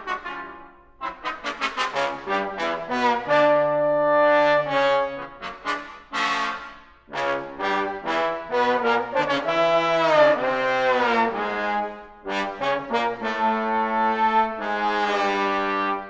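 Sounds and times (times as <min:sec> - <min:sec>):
trombone ensemble playing: 0:00.0 - 0:16.0.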